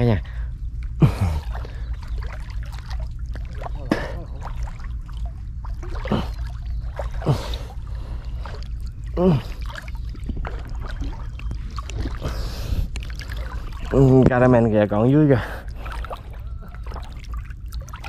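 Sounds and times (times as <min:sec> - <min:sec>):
steady low rumble: 0:00.0 - 0:18.0
water sloshing from wading: 0:00.6 - 0:18.0.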